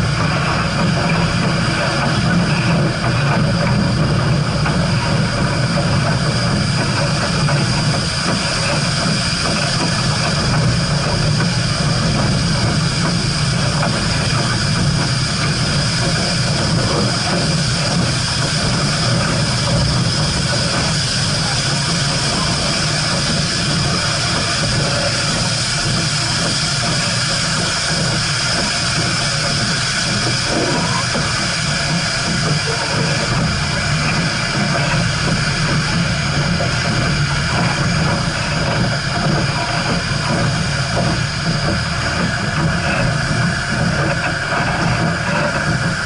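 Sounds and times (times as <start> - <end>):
steam hiss: 0.0 - 46.0
steam train running: 0.0 - 46.0.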